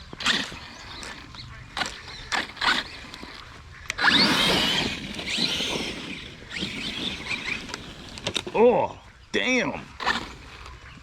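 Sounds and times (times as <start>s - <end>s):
electric motor whine: 0.0s - 8.4s, 10.0s - 10.9s.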